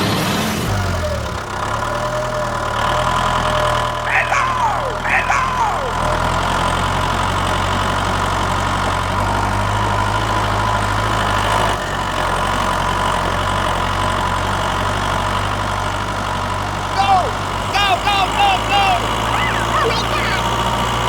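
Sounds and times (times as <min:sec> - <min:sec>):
engine idling: 0:00.9 - 0:21.0.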